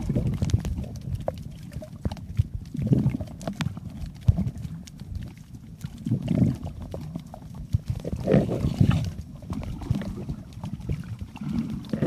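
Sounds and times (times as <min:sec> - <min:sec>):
muffled underwater rumble: 0:00.0 - 0:12.0.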